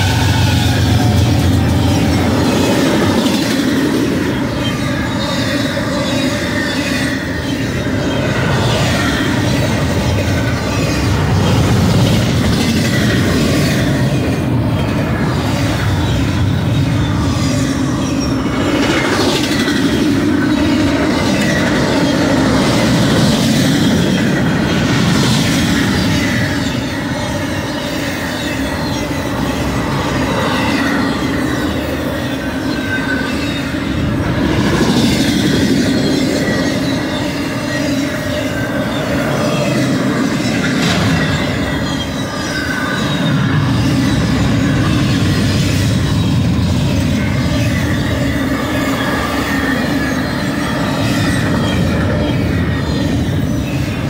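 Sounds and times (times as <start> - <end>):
freight train passing: 0.0 - 54.0
steel wheels rumbling on rail: 0.0 - 54.0.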